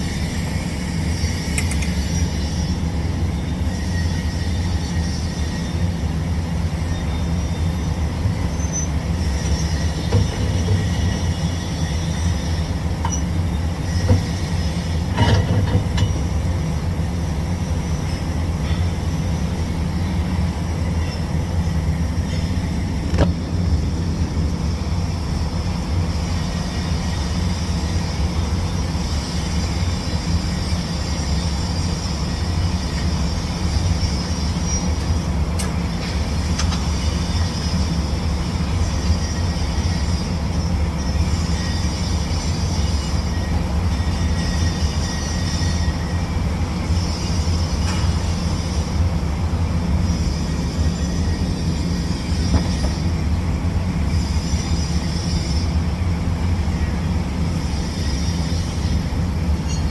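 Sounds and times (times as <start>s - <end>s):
low mechanical drone: 0.0s - 59.9s.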